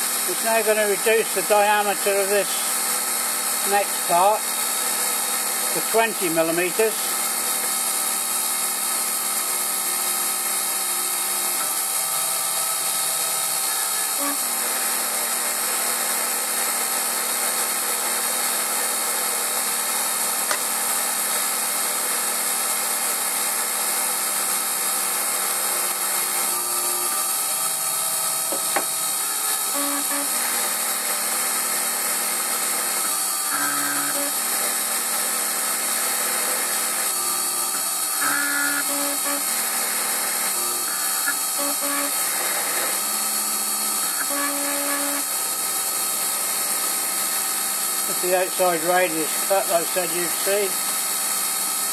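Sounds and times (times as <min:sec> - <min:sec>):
lathe whining while cutting metal: 0:00.0 - 0:51.9.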